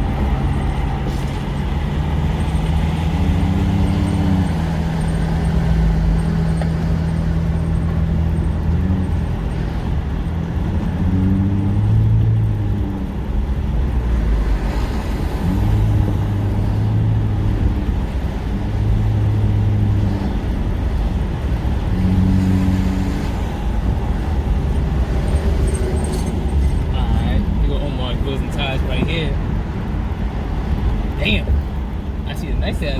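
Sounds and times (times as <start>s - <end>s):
car engine hum: 0.0s - 32.9s
road noise inside car: 0.0s - 32.9s.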